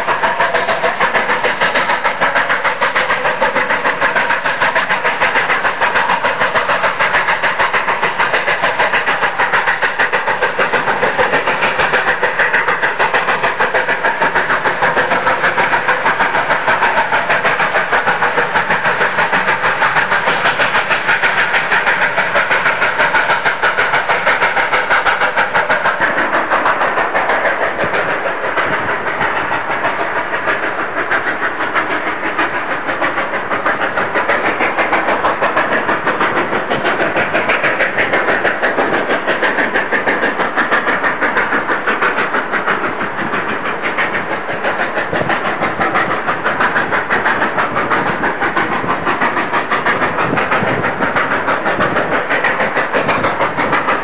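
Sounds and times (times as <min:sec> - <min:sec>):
steam locomotive exhaust beating: 0:00.0 - 0:54.0.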